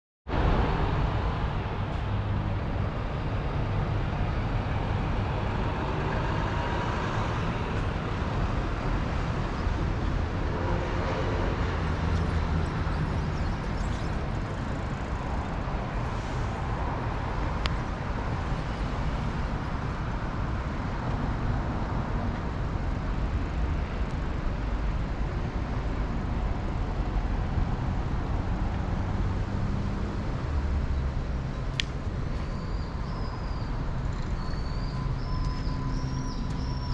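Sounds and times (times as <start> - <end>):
road traffic rumble: 0.3 - 36.9.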